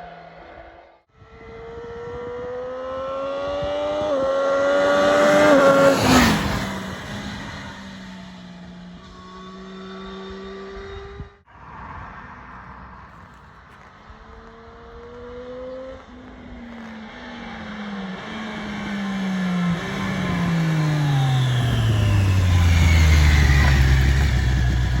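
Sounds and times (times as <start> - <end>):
motorcycle engine: 0.0 - 11.5, 13.1 - 25.0.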